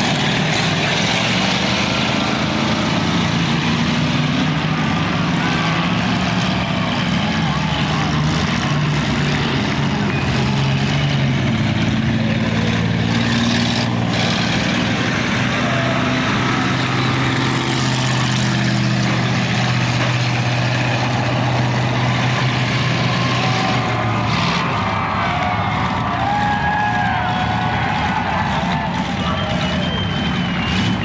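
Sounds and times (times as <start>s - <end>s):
racing car engines running hard: 0.0s - 31.0s.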